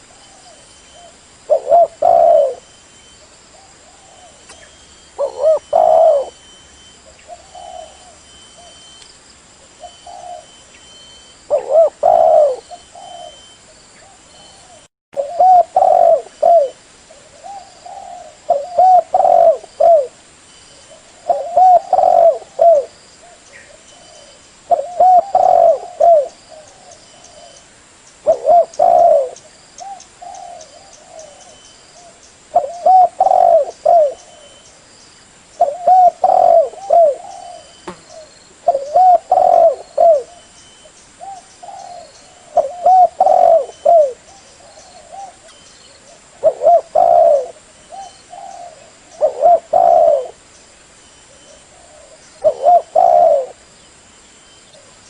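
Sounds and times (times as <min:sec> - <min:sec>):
dove cooing: 0:00.0 - 0:02.7, 0:03.6 - 0:08.9, 0:09.8 - 0:20.2, 0:20.8 - 0:27.6, 0:28.2 - 0:34.7, 0:35.6 - 0:50.4, 0:51.3 - 0:53.6.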